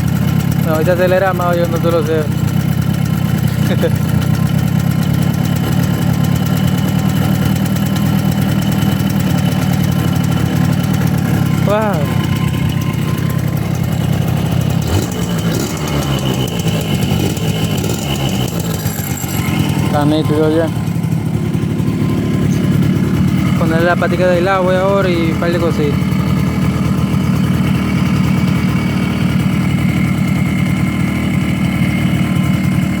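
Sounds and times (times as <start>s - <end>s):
two-stroke engine running steadily: 0.0s - 33.0s.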